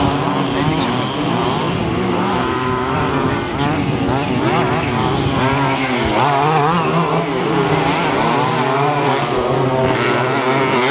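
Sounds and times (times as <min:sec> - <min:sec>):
small two-stroke engines racing: 0:00.0 - 0:10.9.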